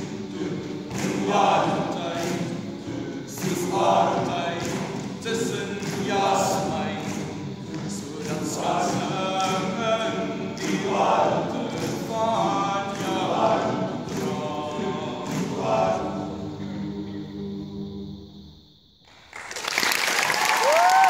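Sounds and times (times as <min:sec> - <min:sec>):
male choir singing a cappella: 0:00.0 - 0:18.5.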